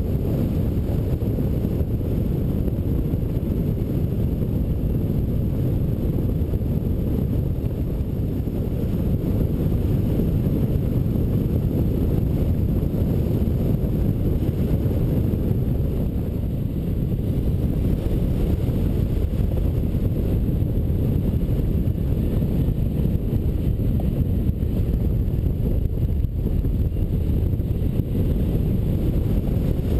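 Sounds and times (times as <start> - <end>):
wind rushing over microphone: 0.0 - 29.9.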